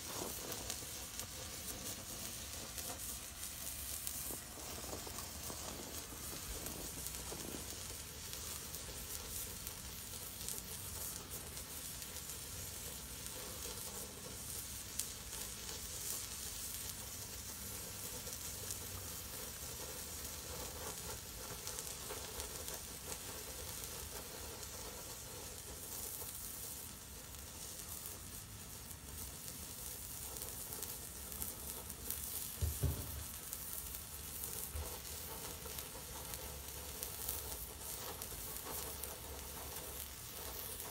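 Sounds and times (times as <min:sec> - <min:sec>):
flare burning with sizzling hiss: 0:00.0 - 0:40.9.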